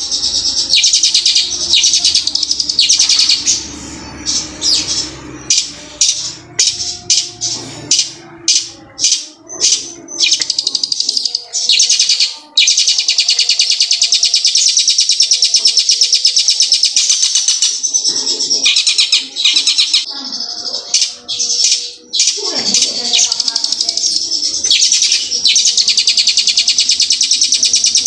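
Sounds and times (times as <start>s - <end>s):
bird singing high sharp notes: 0.0s - 28.0s.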